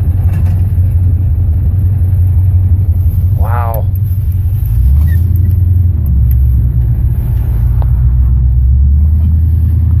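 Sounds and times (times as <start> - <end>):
truck drivetrain low rumble: 0.0 - 10.0.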